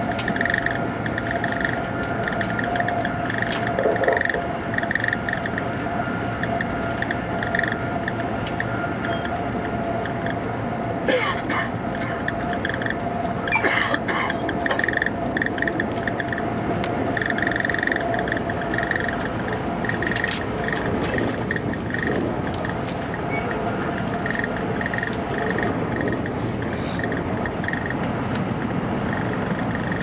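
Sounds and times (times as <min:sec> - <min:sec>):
faint steady whine: 0:00.0 - 0:30.0
train rolling and wind noise: 0:00.0 - 0:30.0.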